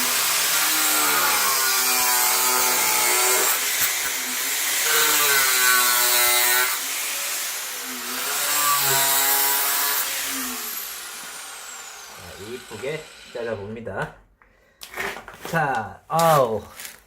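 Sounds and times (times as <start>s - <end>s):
power saw cutting pipe: 0.0s - 13.8s.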